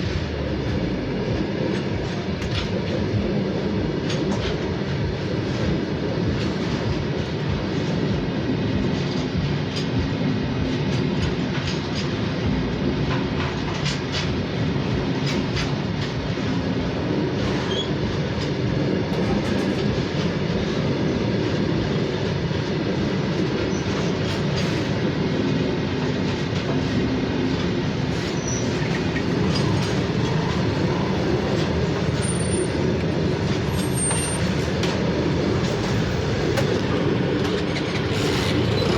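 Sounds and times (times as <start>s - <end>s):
train wheels rumbling on rails: 0.0s - 38.9s
wheels clicking over rail joints: 0.0s - 38.9s.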